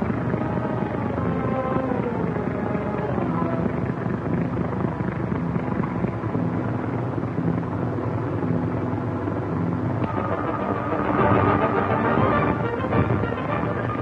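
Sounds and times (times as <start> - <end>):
motorboat engines droning: 0.0 - 14.0
music: 0.0 - 14.0.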